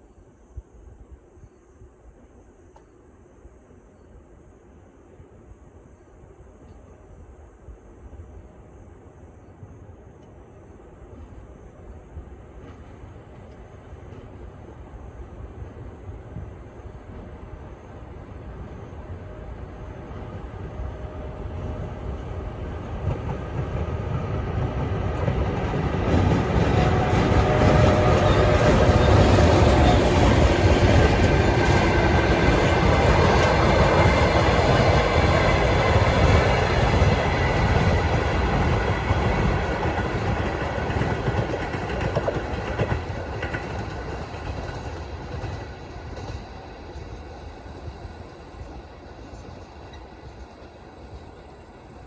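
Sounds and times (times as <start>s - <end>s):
freight train wheels rumbling: 9.5s - 52.0s.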